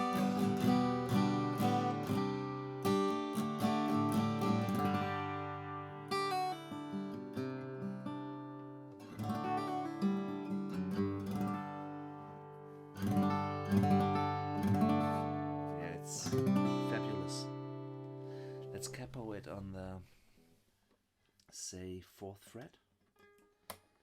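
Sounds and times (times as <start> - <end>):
acoustic guitar strumming: 0.0 - 19.4.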